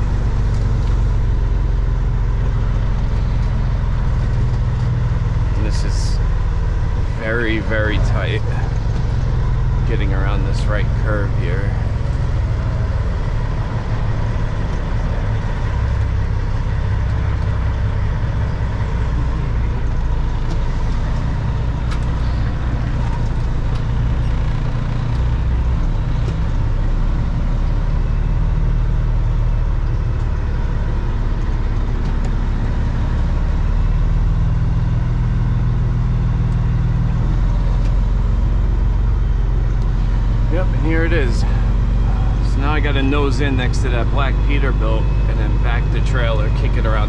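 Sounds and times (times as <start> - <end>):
truck diesel engine running: 0.0 - 47.0.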